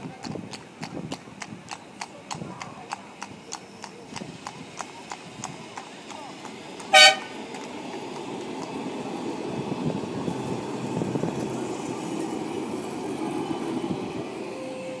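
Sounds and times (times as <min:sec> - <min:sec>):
tram rumbling past on rails: 0:00.0 - 0:15.0.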